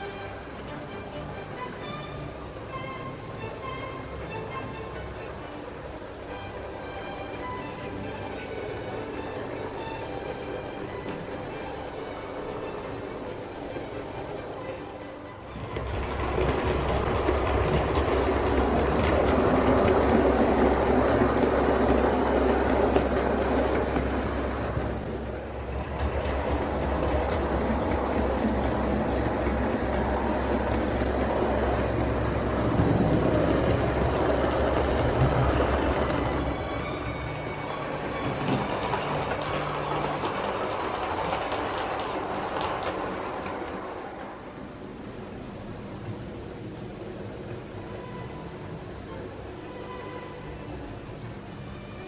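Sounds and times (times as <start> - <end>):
model train rumbling on track: 0.0 - 52.0
wheels clicking over rails: 0.0 - 52.0.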